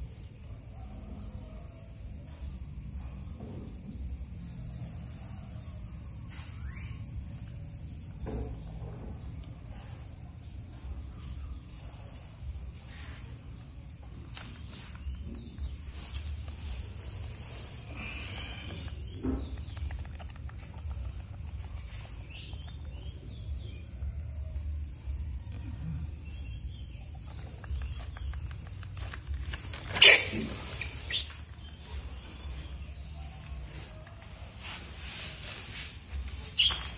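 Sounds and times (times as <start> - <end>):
cricket trilling: 0.0 - 36.9.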